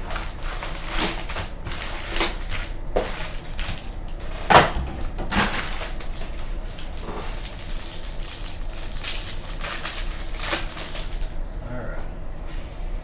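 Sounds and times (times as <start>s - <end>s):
wrapping crinkling and rustling: 0.0s - 11.4s.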